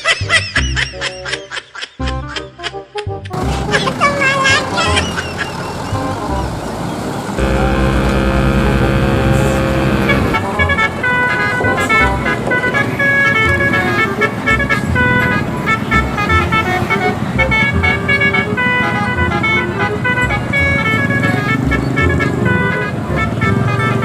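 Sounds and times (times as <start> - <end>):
bus engine running: 3.4 - 24.0
multi-tone bus horn: 3.4 - 24.0.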